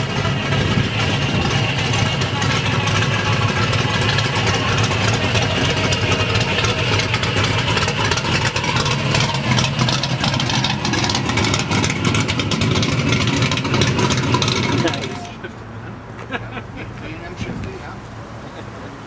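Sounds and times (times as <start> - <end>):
vehicle engine idling loudly: 0.0 - 15.4.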